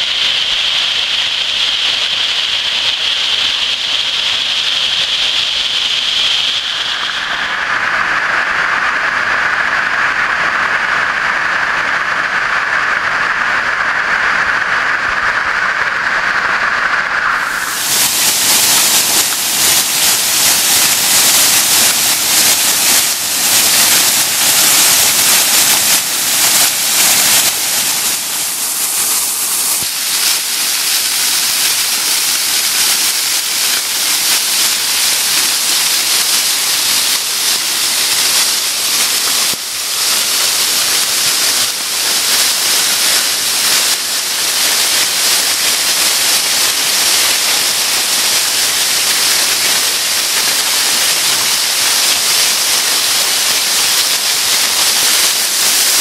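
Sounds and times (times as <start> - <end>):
waterfall pouring: 0.0 - 56.0.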